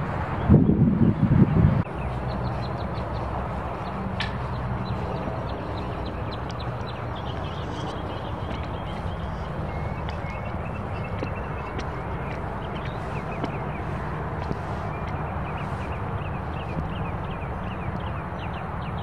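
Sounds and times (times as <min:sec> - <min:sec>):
outdoor background rumble: 0:00.0 - 0:19.0.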